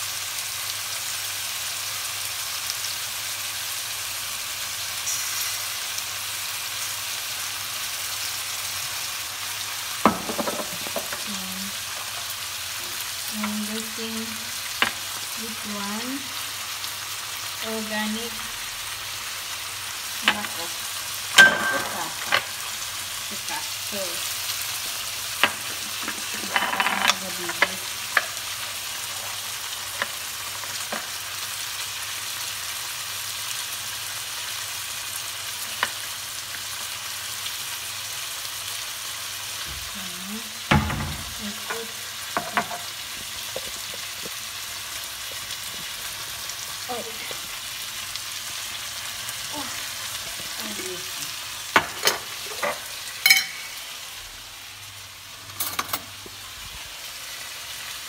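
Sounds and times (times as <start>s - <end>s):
chicken sizzling in pan: 0.0s - 58.0s.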